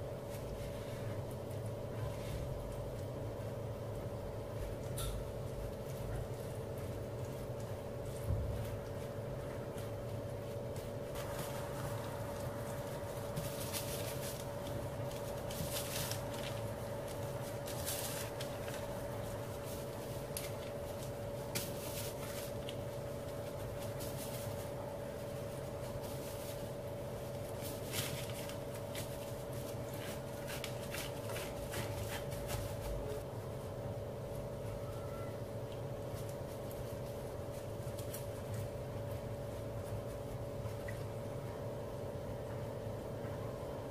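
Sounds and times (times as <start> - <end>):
steady background hum: 0.0 - 43.9.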